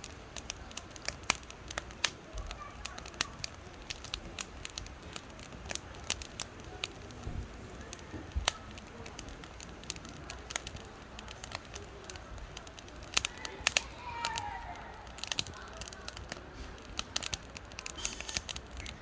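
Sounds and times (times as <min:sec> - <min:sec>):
firewood crackling and popping: 0:00.0 - 0:19.0
low steady hiss: 0:00.0 - 0:19.0.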